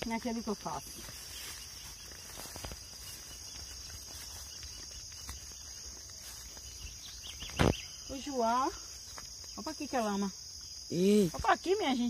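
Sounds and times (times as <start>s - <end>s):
footsteps through brush: 0.0s - 12.0s
high-pitched insect drone: 0.0s - 12.0s.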